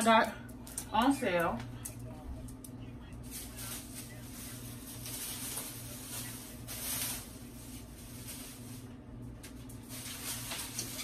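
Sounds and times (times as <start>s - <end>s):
steady low hum: 0.0s - 11.0s
rustling and handling noises: 0.5s - 11.0s.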